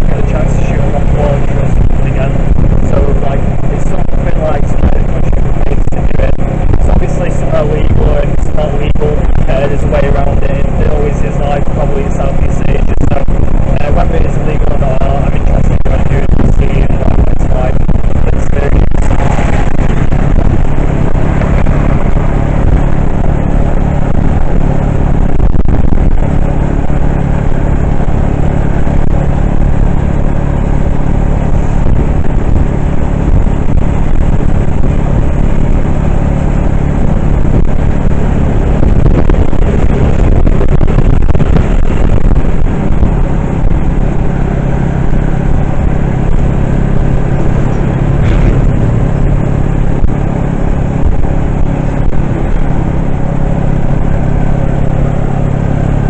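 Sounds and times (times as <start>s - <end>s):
road noise: 0.0s - 56.0s
vehicle engine hum: 0.0s - 56.0s.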